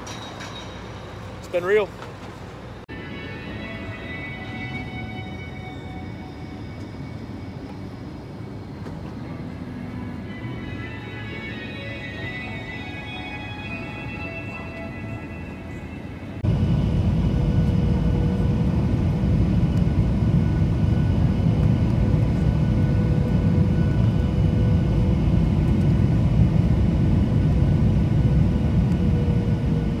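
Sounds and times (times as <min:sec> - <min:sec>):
faint engine whine: 0:00.0 - 0:30.0
jet engine low rumble: 0:00.7 - 0:12.3, 0:14.7 - 0:30.0.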